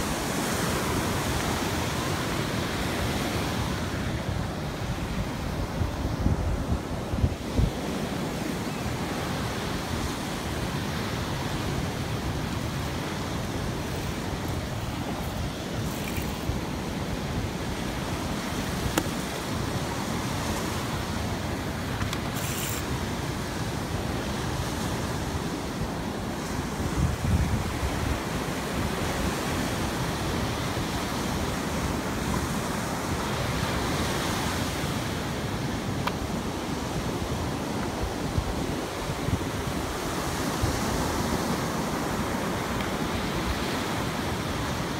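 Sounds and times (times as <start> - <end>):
surf breaking on beach: 0.0 - 44.9.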